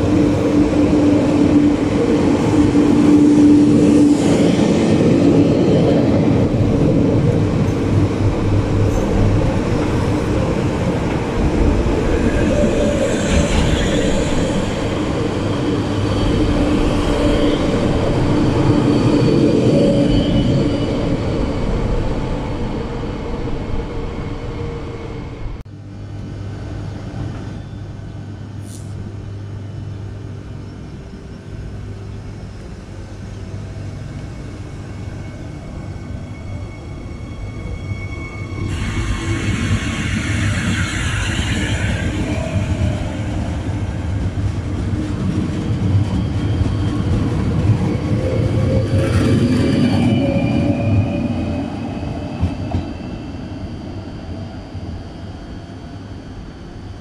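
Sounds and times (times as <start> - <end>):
electric train hum and rumble: 0.0 - 57.0.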